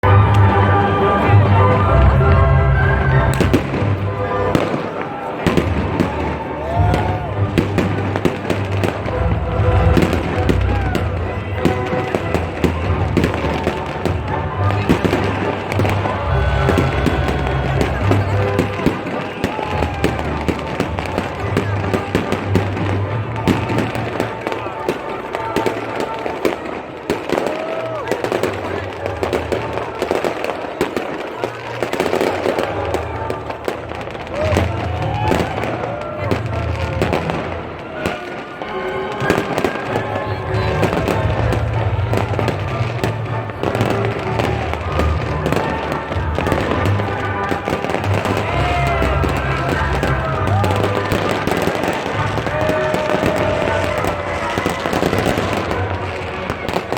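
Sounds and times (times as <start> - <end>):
waltz music with bass: 0.0 - 27.1, 31.8 - 56.9
fireworks bangs and pops: 3.3 - 56.9.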